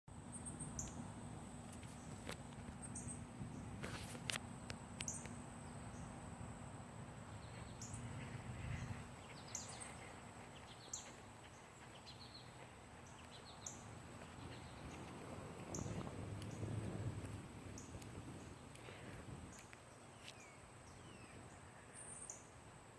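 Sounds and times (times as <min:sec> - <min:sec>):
high insect drone: 0:00.2 - 0:22.9
bird chirping: 0:00.3 - 0:01.1, 0:01.9 - 0:03.8, 0:05.0 - 0:06.2, 0:07.2 - 0:22.5.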